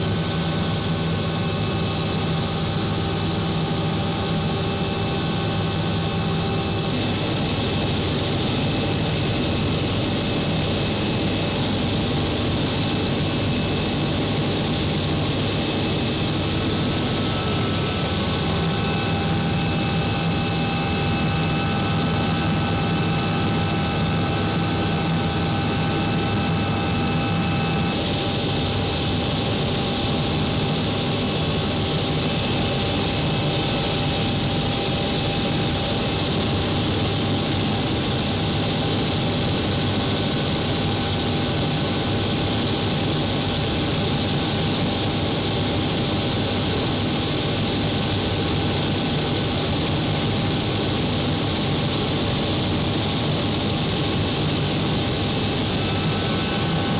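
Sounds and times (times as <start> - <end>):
helicopter turbine and rotor noise: 0.0 - 56.9.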